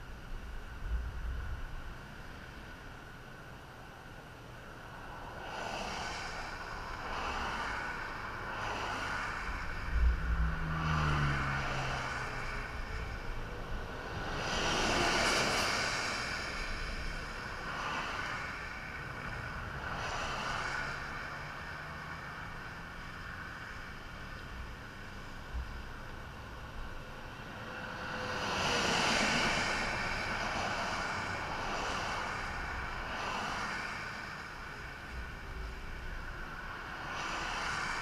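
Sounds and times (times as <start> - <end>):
traffic hissing on wet road: 0.0 - 38.0.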